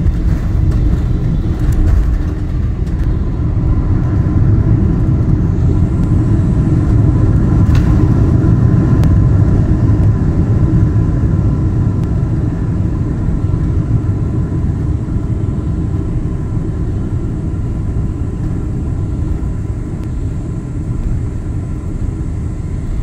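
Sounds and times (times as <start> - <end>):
aircraft cabin rumble on runway: 0.0 - 23.0
faint engine tones: 0.0 - 23.0.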